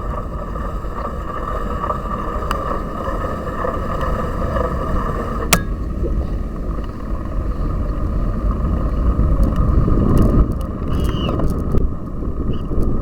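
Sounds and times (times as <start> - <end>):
bike tyres rumbling: 0.0 - 13.0
wind on microphone: 0.0 - 13.0.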